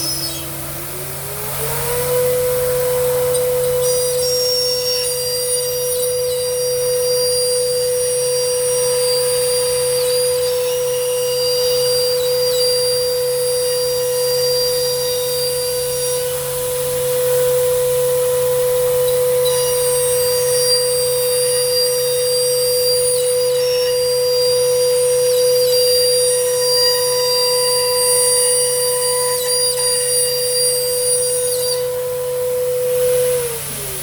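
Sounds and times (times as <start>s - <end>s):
router spindle whine: 0.0s - 34.0s
thin high whines: 0.0s - 34.0s.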